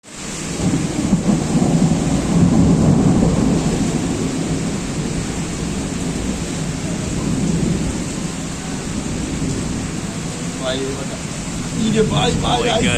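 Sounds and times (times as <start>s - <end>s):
heavy rain: 0.0s - 12.9s
thunder rumbling: 0.2s - 12.9s.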